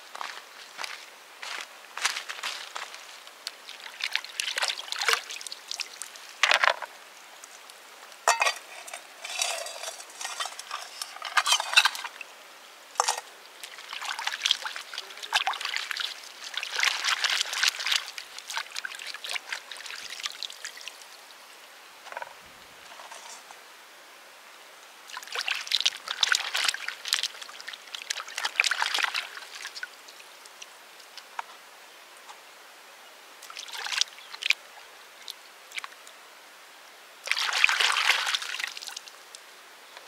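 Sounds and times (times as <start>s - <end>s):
water splashing and trickling: 0.2s - 23.5s, 25.0s - 32.4s, 33.3s - 36.1s, 37.2s - 39.5s.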